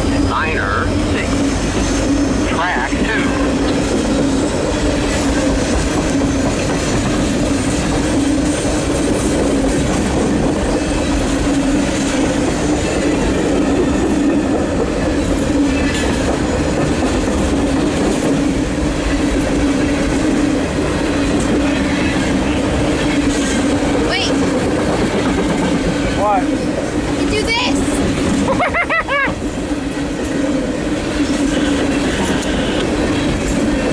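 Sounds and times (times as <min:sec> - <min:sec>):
freight train rumbling past: 0:00.0 - 0:33.9
wheels clacking over rail joints: 0:01.3 - 0:28.5.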